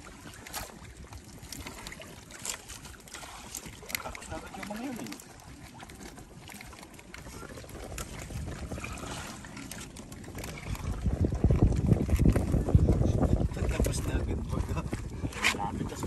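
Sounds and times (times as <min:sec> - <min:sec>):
sea water sloshing and splashing: 0:00.0 - 0:16.0.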